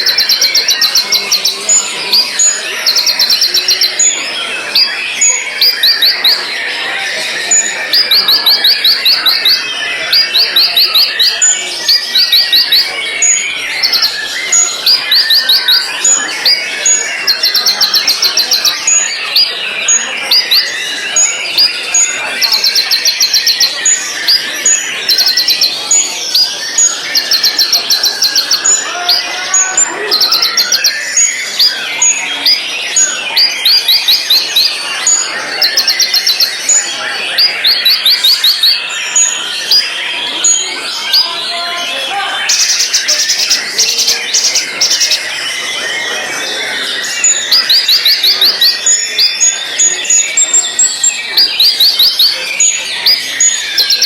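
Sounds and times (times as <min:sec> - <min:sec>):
bird singing rapid trills: 0:00.0 - 0:54.0
other birds chirping: 0:00.0 - 0:54.0.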